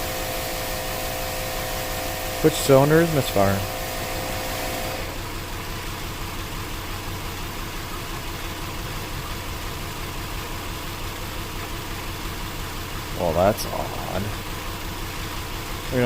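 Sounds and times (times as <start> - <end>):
engine idling rough with misfires: 0.0 - 16.0.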